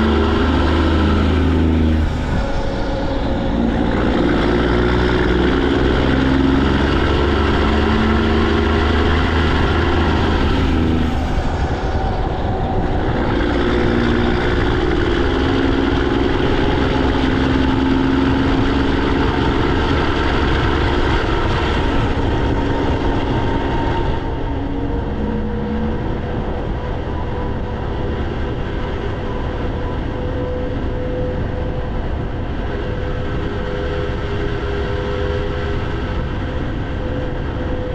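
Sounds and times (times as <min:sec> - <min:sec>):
diesel truck engine under load: 0:00.0 - 0:37.9.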